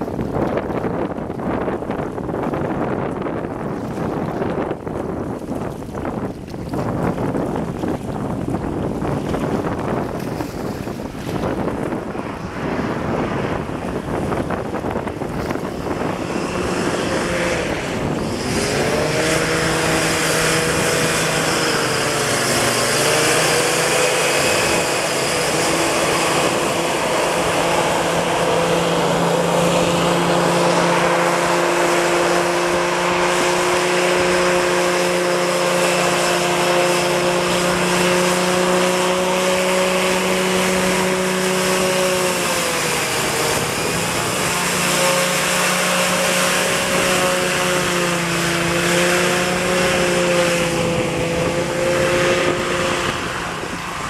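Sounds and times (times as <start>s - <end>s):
engine and propeller fan drone: 0.0s - 54.0s.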